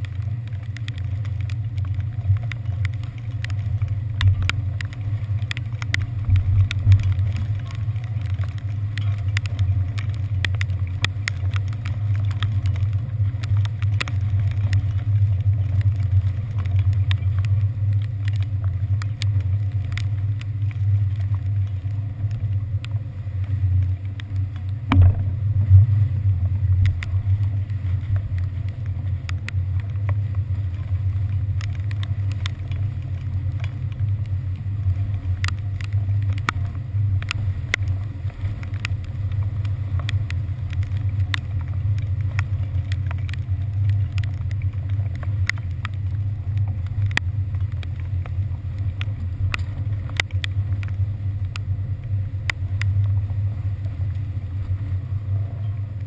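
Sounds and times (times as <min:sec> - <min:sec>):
ferry engines droning: 0:00.0 - 0:56.0
light ticks: 0:00.0 - 0:56.0.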